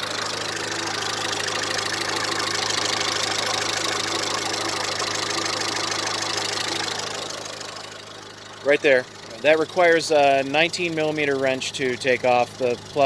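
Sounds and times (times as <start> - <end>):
car engine idling: 0.0 - 13.0
fast light engine ticking: 0.0 - 13.0.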